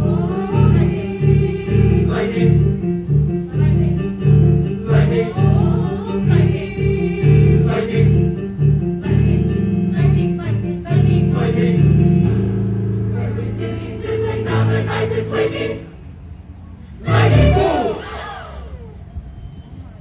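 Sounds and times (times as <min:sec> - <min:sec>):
vocal ensemble singing: 0:00.0 - 0:16.2, 0:17.0 - 0:18.7
beat of repeated low notes: 0:00.0 - 0:17.9.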